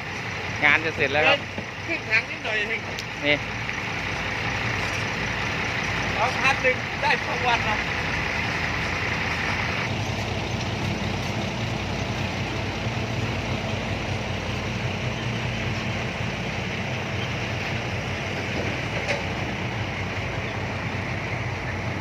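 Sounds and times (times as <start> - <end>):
diesel engine rumbling: 0.0 - 22.0
road noise: 0.0 - 22.0.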